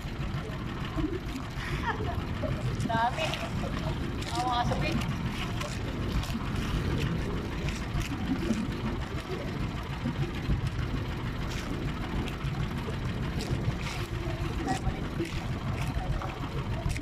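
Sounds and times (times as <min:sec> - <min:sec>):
wind and sea rumble: 0:00.0 - 0:17.0
small water splashes: 0:02.5 - 0:17.0.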